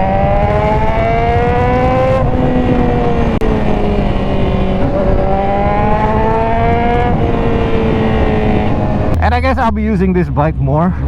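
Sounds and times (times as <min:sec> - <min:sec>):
motorcycle engine revving: 0:00.0 - 0:09.8
low wind rush: 0:00.0 - 0:11.0.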